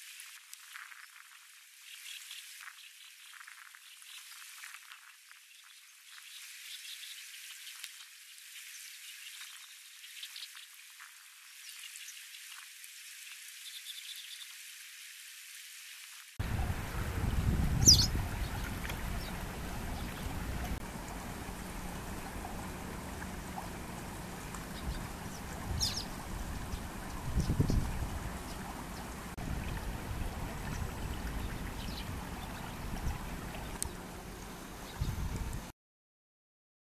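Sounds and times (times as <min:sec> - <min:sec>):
faint hiss: 0:00.0 - 0:35.7
water running over stones: 0:00.0 - 0:35.7.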